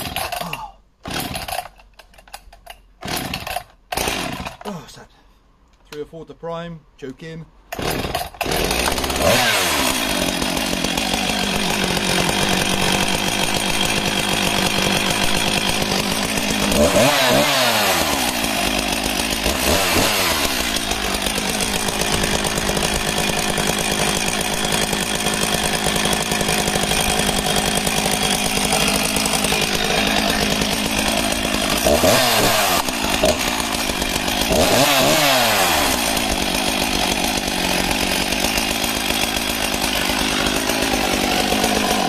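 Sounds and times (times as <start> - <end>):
chainsaw revving: 0.0 - 1.8, 3.0 - 4.8, 7.7 - 42.0
chainsaw starting and idling: 0.0 - 4.9, 7.7 - 42.0.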